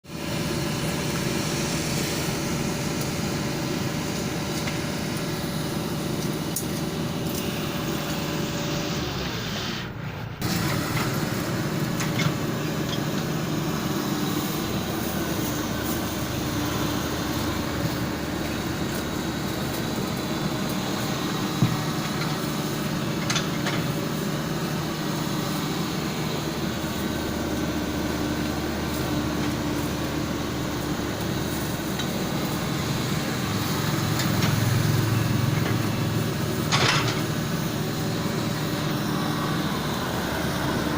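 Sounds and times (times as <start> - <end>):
excavator diesel engine running: 0.1 - 40.9.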